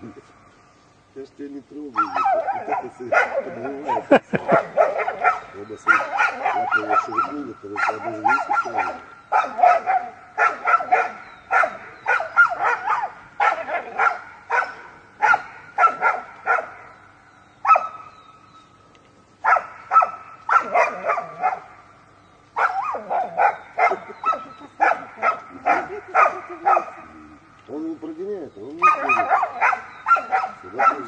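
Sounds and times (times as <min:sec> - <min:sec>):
dog barking: 0:01.9 - 0:17.0, 0:17.6 - 0:18.1, 0:19.4 - 0:21.8, 0:22.5 - 0:27.4, 0:28.7 - 0:31.0.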